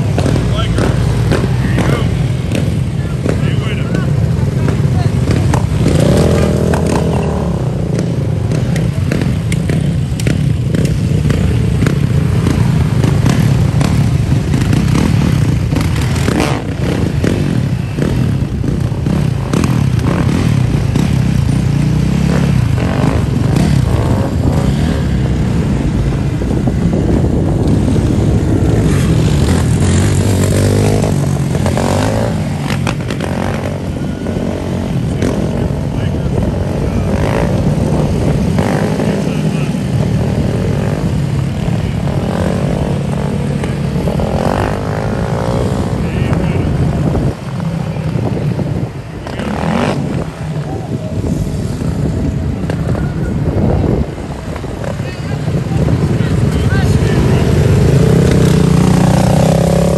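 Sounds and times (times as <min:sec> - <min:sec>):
dirt bike and quad engines revving: 0:00.0 - 0:59.9.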